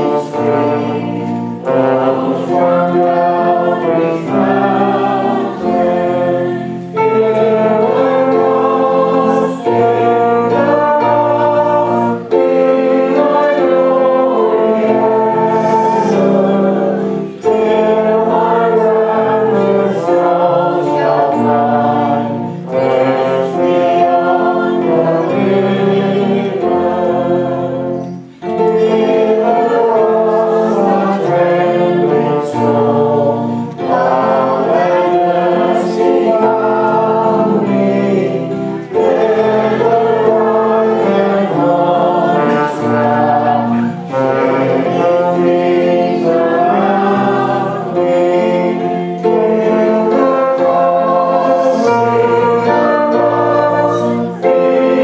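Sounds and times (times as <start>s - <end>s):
group singing a hymn: 0.0s - 55.0s.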